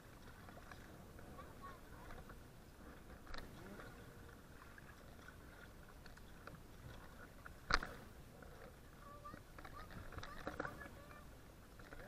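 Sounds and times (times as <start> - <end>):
faint water noise: 0.0 - 12.0.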